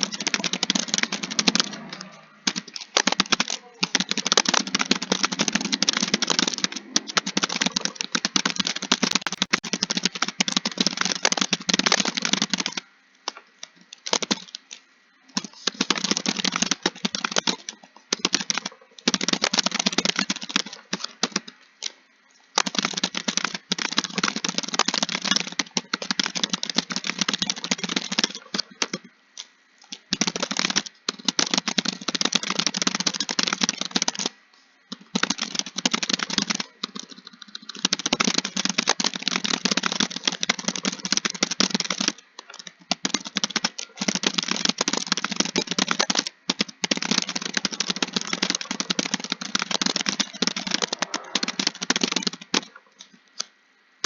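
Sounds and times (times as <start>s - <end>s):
fast typing on keyboard: 0.0s - 14.8s, 15.4s - 53.2s.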